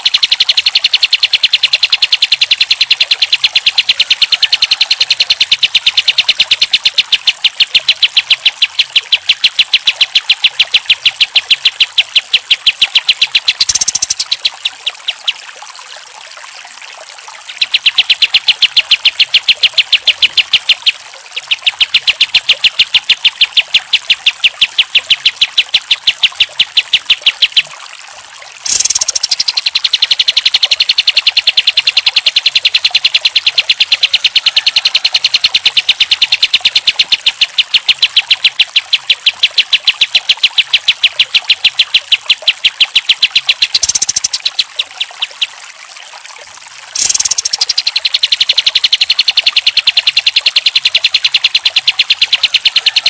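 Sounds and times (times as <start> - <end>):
bulbul singing rapid notes: 0.0 - 15.5, 17.4 - 27.9, 28.6 - 45.6, 46.9 - 53.0.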